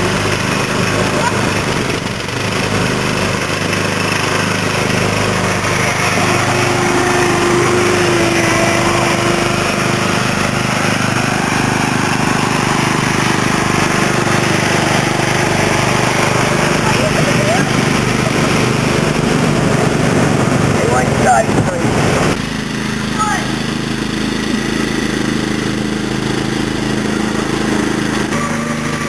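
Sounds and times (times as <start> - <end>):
lawn tractor engines running: 0.0 - 29.0.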